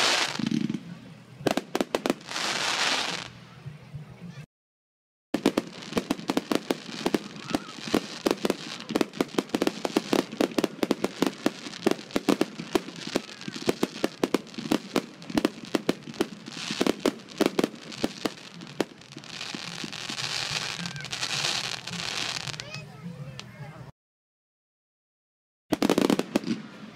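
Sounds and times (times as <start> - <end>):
fireworks bangs and crackles: 0.0 - 3.4, 5.4 - 23.4, 25.7 - 26.9.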